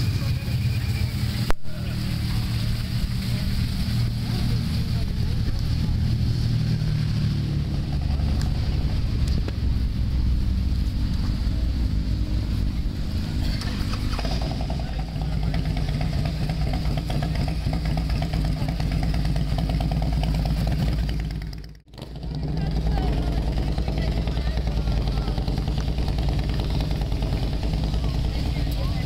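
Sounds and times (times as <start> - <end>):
higher engine note: 0.0 - 29.0
motorcycle engines rumbling: 0.0 - 29.0.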